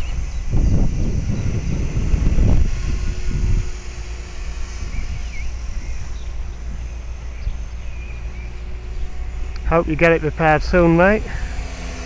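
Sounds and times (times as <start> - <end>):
distant rc helicopter whine: 0.0 - 12.0
wind buffeting microphone: 0.0 - 12.0.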